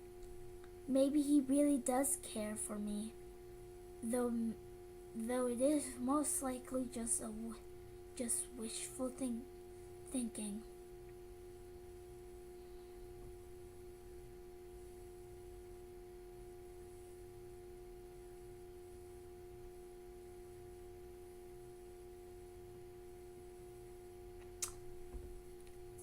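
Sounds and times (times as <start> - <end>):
faint low background hum: 0.0 - 26.0.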